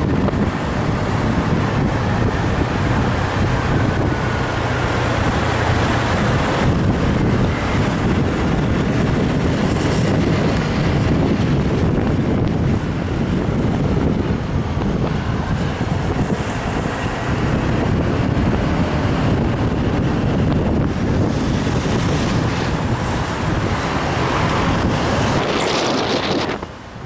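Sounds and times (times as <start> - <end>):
road and traffic noise: 0.0 - 27.0
wind buffeting microphone: 0.0 - 27.0.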